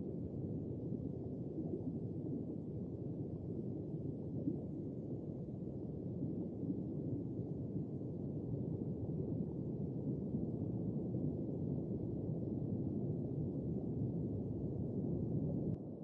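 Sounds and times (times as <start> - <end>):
muffled underwater rumble: 0.0 - 16.0.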